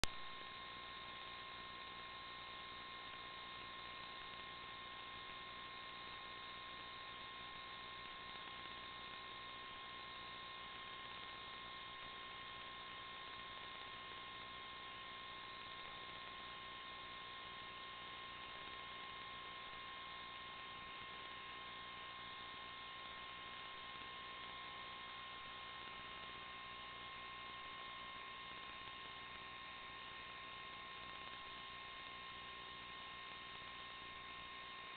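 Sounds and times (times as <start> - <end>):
electronic hum and hiss: 0.0 - 34.9.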